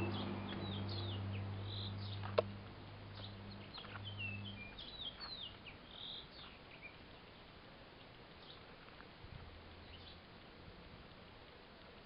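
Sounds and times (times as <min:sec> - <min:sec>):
low steady hum: 0:00.0 - 0:12.0
songbirds chirping: 0:00.0 - 0:12.0.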